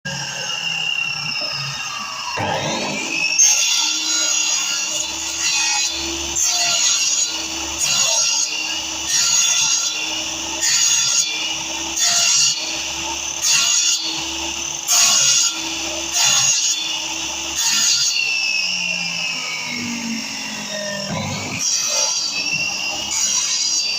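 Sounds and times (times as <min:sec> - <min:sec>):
hand saw cutting wood: 0:02.4 - 0:18.6, 0:19.9 - 0:23.9.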